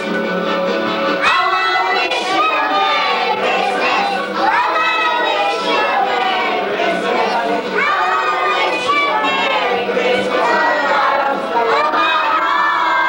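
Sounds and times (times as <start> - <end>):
children chattering: 1.2 - 13.0
children singing: 1.2 - 13.0.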